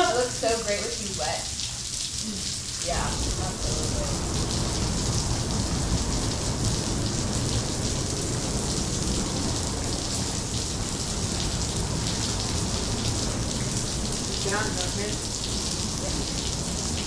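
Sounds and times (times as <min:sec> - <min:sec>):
water splashing on floor: 0:00.0 - 0:17.0.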